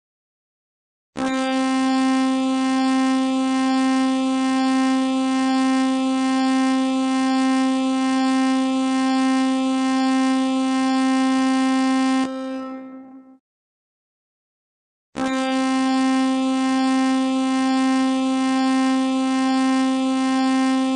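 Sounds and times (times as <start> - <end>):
buzzy alarm tone: 1.2 - 13.4, 15.2 - 20.9.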